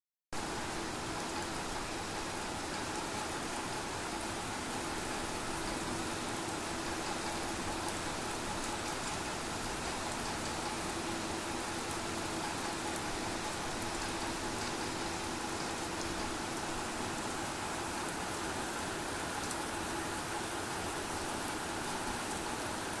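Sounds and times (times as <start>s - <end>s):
heavy rain on concrete roof: 0.4s - 23.0s.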